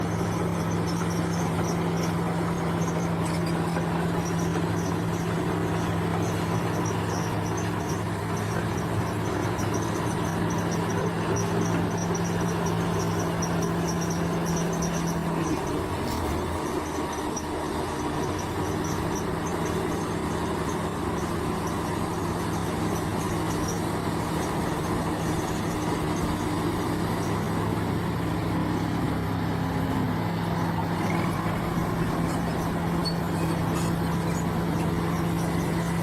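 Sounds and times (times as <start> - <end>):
heavy machine engine running: 0.0 - 36.0
insects chirping: 0.1 - 36.0.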